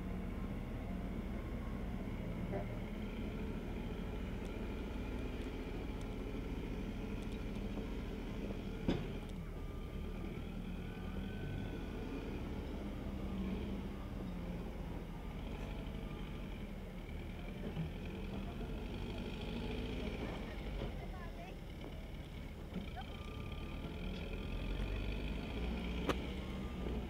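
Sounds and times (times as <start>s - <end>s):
distant heavy machinery engine: 0.0s - 27.0s.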